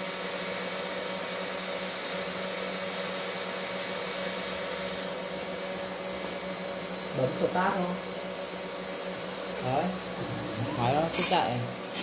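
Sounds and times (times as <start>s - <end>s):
spindle motor hum and whine: 0.0s - 12.0s.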